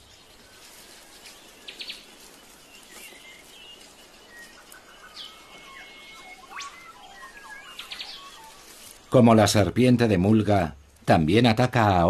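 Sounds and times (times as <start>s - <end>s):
birds calling: 0.0s - 12.0s
faint background hiss: 0.0s - 12.0s.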